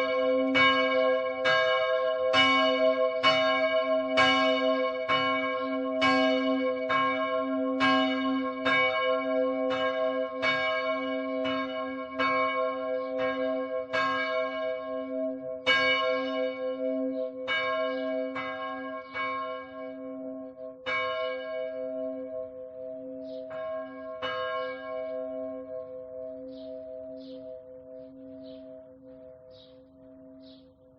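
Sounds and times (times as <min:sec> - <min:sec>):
church bell tolling: 0:00.0 - 0:30.9.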